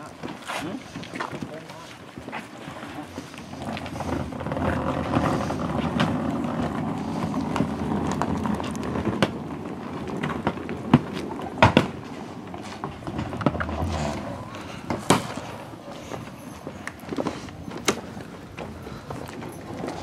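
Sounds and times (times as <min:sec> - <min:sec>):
bags scraping over asphalt: 0:00.0 - 0:20.0.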